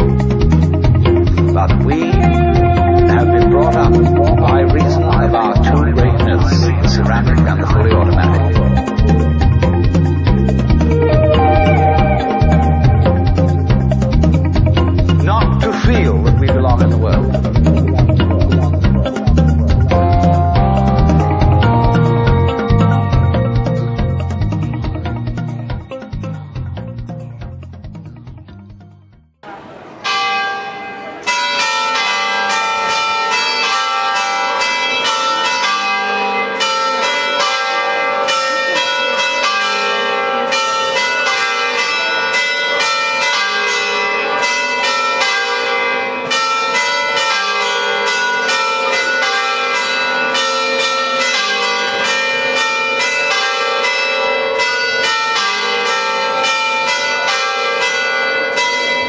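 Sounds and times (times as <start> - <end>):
church bells ringing: 0.0 - 27.4, 29.5 - 59.0.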